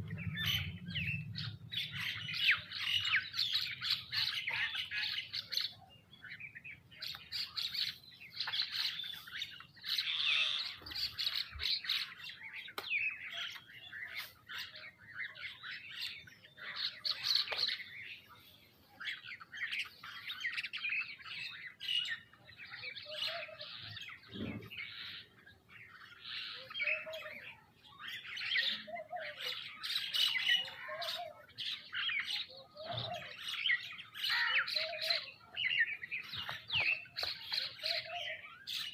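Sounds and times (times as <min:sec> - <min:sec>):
birds chirping and squawking: 0:00.0 - 0:38.9
low bird calls: 0:00.0 - 0:38.9.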